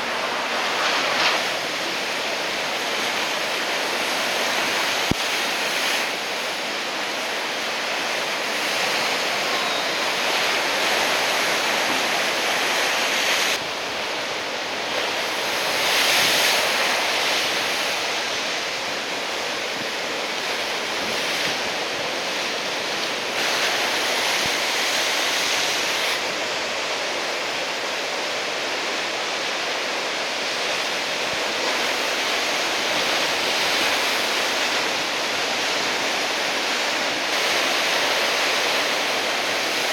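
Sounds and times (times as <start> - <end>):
heavy surf roaring: 0.0 - 39.9.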